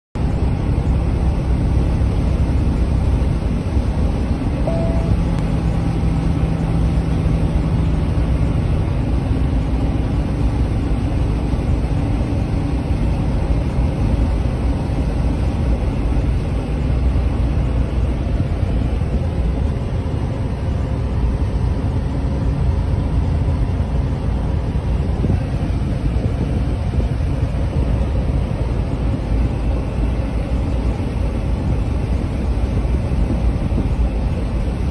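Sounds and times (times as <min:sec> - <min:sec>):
road noise inside moving vehicle: 0:00.1 - 0:34.9
faint engine hum: 0:00.2 - 0:34.9.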